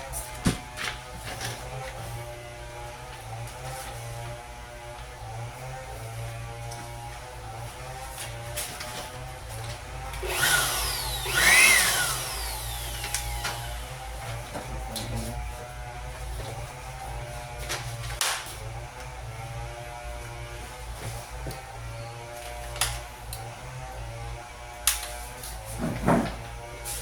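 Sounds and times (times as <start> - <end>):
blower-vacuum motor humming: 0.0 - 27.0.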